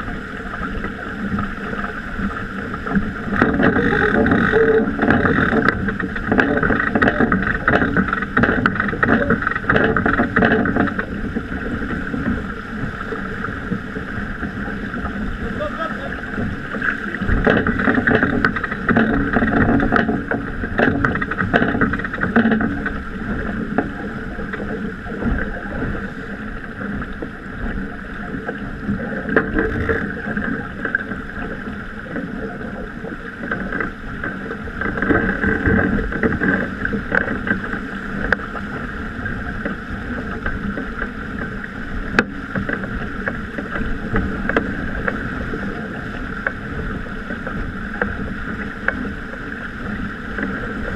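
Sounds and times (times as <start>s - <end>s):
water rushing along a hull: 0.0s - 50.9s
wind buffeting microphone: 0.0s - 50.9s.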